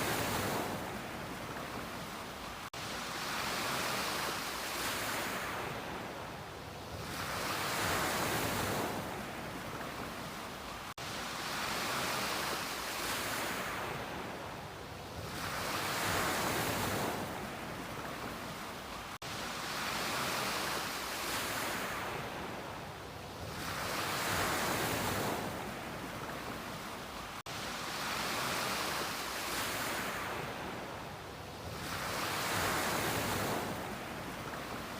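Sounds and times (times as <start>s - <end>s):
ocean surf breaking on beach: 0.0s - 34.9s.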